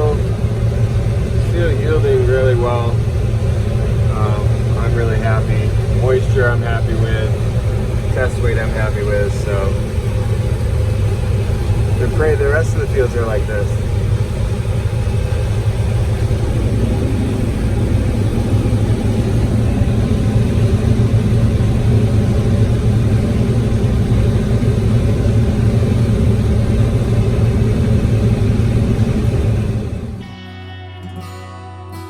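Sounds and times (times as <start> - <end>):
diesel engine droning: 0.0 - 30.6.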